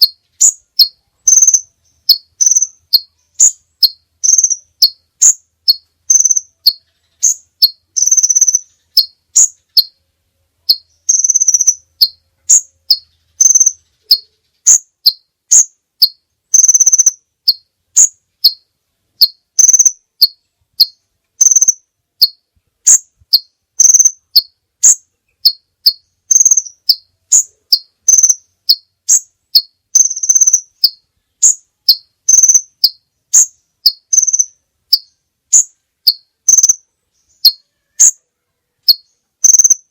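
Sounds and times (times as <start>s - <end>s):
high bird chirps: 0.0s - 10.0s, 10.6s - 39.9s.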